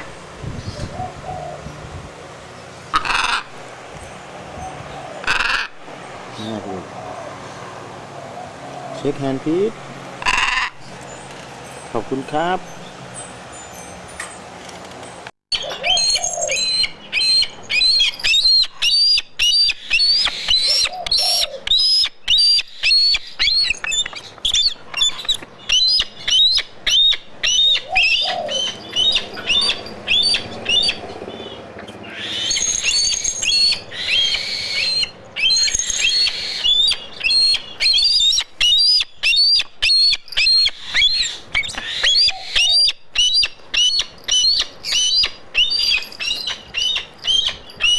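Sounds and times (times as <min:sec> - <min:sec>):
lower arching bird calls: 0:00.0 - 0:11.4, 0:15.5 - 0:47.9
birds chirping: 0:00.0 - 0:47.9.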